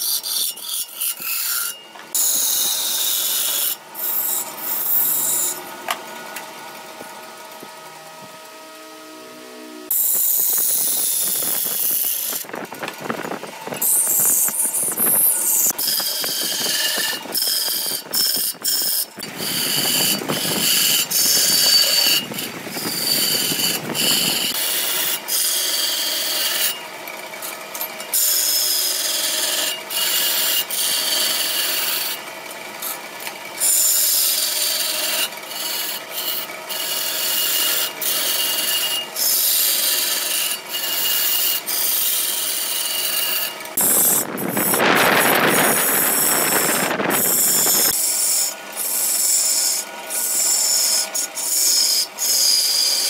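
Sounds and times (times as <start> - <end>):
gouge cutting wood on a lathe: 0.0 - 6.0, 9.9 - 13.0, 13.6 - 53.0.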